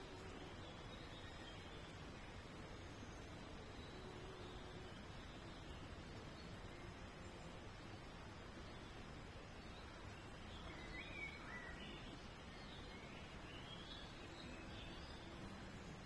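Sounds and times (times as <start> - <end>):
faint birds chirping: 0.0 - 16.0
low outdoor background hiss: 0.0 - 16.0.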